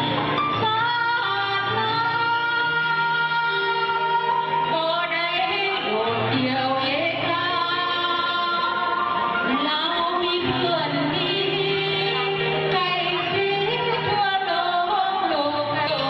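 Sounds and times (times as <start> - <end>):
instrumental accompaniment: 0.0 - 16.0
woman singing into a microphone: 0.0 - 16.0.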